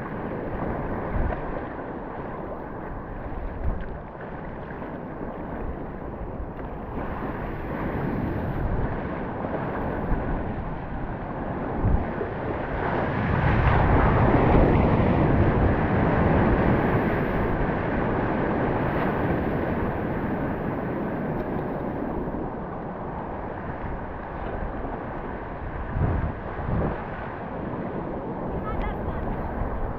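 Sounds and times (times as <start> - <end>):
water noise: 0.0 - 29.9
wind buffeting microphone: 0.0 - 29.9.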